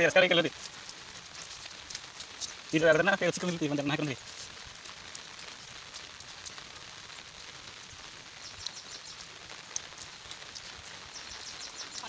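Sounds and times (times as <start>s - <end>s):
faint water drips: 0.0s - 12.0s
light rain on leaves: 0.0s - 12.0s.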